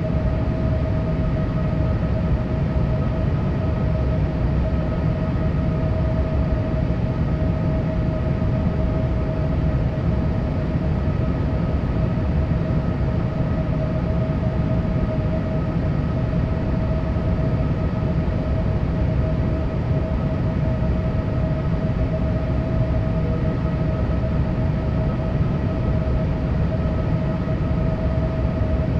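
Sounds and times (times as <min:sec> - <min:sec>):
airplane cabin low rumble: 0:00.0 - 0:28.9
steady whine: 0:00.0 - 0:28.9.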